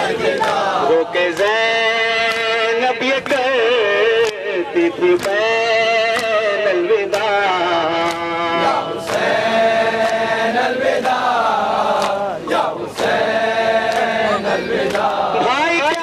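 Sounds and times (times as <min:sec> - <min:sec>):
lead reciter over loudspeaker: 0:00.0 - 0:16.0
male voices chanting in unison: 0:00.0 - 0:16.0
rhythmic chest-beating slaps: 0:00.0 - 0:16.0.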